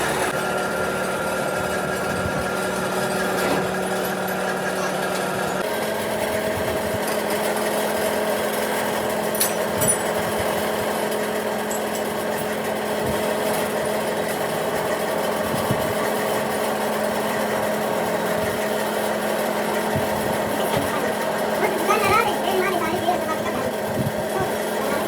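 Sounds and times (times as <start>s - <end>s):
machine motor humming: 0.0s - 7.0s, 8.7s - 25.0s.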